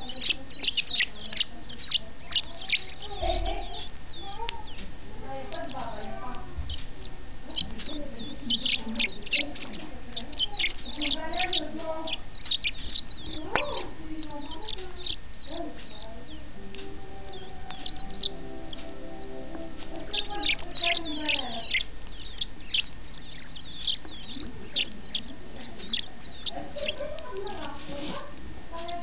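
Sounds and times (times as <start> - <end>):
bird chick begging chirps: 0.0 - 28.1, 28.7 - 29.0.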